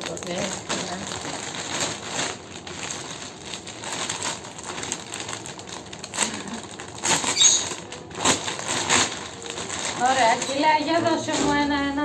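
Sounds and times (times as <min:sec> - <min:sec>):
plastic foil bag crinkling: 0:00.0 - 0:12.0.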